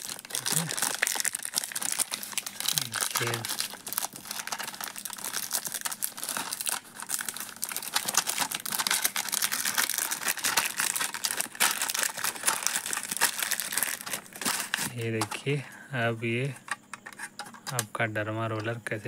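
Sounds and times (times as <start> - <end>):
plastic packaging crinkling: 0.0 - 15.4.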